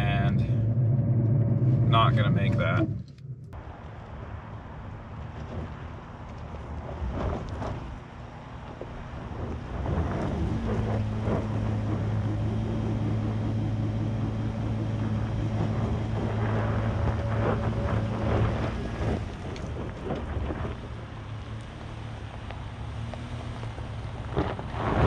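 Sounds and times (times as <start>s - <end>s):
gravel crackling under tyres: 0.0s - 25.0s
truck engine at high revs: 0.0s - 25.0s.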